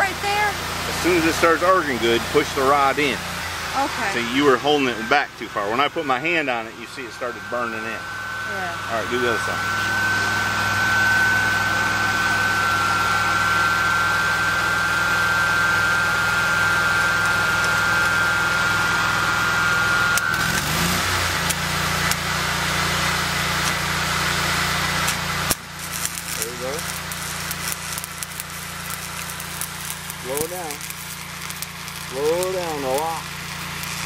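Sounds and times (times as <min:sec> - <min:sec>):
welder humming: 0:00.0 - 0:34.0
welding arc buzzing and crackling: 0:00.0 - 0:34.0.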